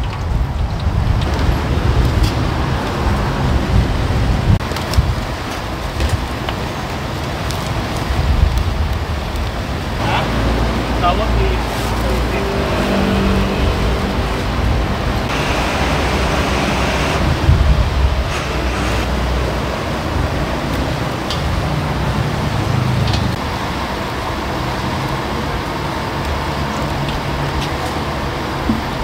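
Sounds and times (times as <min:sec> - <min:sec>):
road traffic: 0:00.0 - 0:29.0
street food stall roar: 0:00.0 - 0:29.0.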